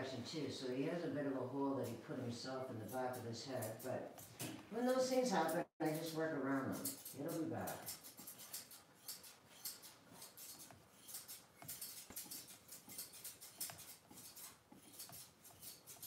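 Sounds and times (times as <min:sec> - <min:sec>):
grooming shears snipping: 0:02.7 - 0:16.0.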